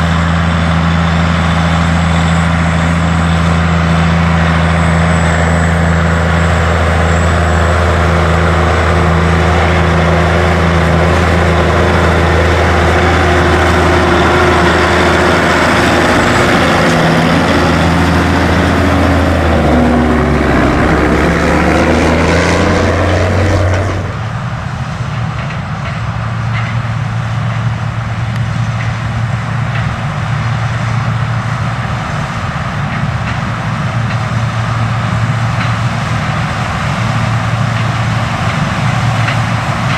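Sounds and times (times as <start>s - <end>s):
diesel farm machinery running: 0.0s - 39.9s.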